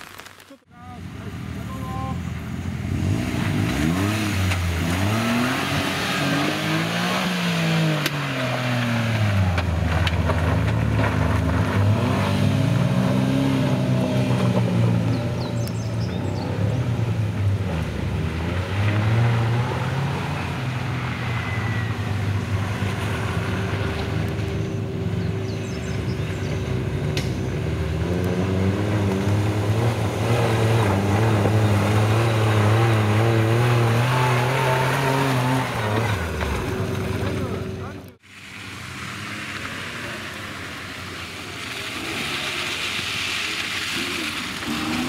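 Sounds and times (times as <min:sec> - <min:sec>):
off-road vehicle engine revving: 0:01.0 - 0:45.0.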